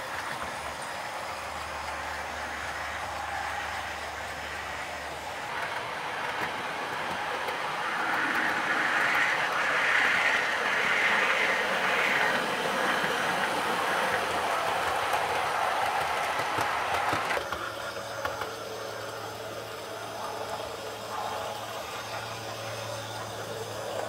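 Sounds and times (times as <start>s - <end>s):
model train motor whirring: 0.0s - 24.0s
wheels rattling over rails: 0.0s - 24.0s.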